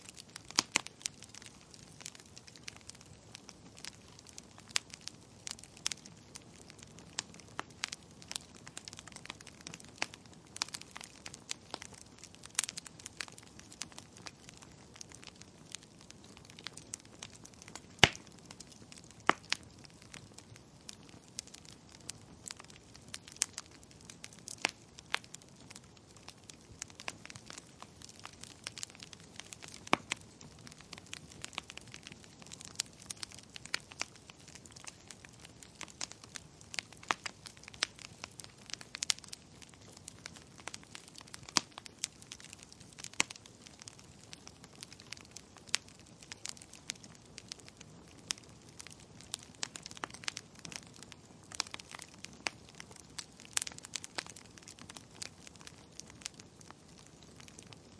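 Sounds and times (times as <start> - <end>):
low hiss of fire: 0.0 - 57.9
wood fire crackling: 0.0 - 57.9.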